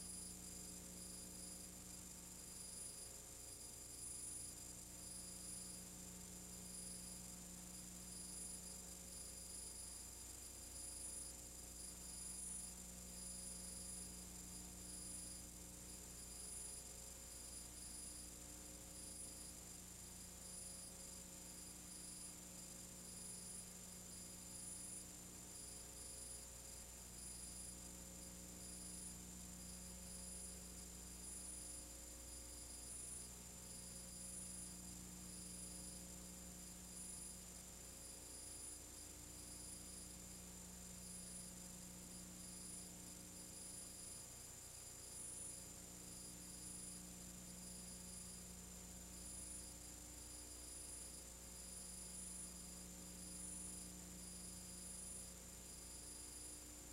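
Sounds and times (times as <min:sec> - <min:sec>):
electrical hum with hiss: 0:00.0 - 0:56.9.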